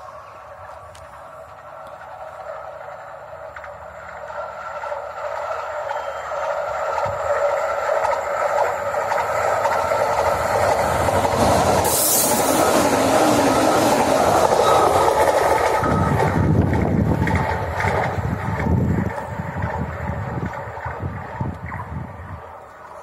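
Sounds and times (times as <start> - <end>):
rush of air from passing train: 0.0 - 23.0
train wheels rumbling on rails: 0.0 - 23.0.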